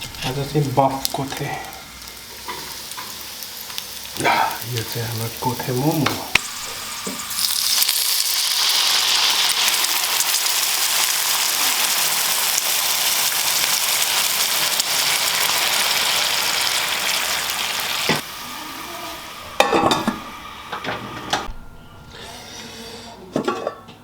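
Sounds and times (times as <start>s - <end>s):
dumplings sizzling in a pan: 0.0s - 21.3s.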